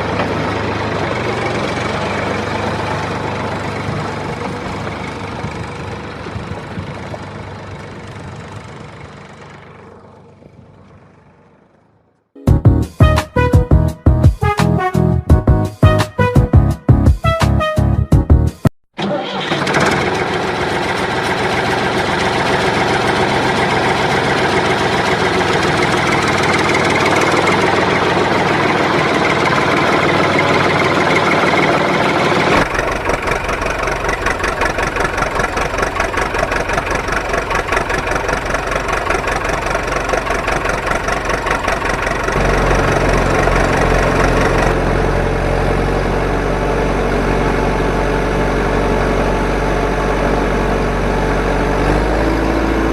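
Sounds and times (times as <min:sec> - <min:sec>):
engine idling: 0:00.0 - 0:12.2, 0:19.0 - 0:52.9.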